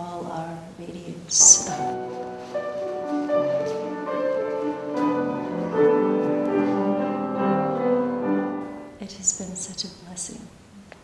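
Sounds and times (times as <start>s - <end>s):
calm classical instrumental music: 0.0s - 11.0s.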